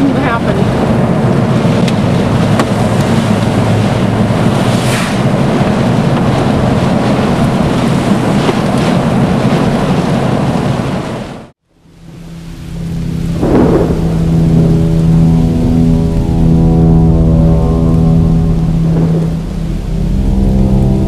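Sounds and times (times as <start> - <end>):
rain noise: 0.0 - 21.0
tornado wind roar: 0.0 - 21.0.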